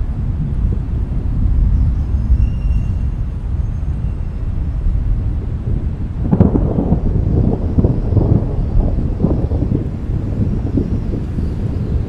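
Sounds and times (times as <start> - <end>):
deep rumble: 0.0 - 12.0.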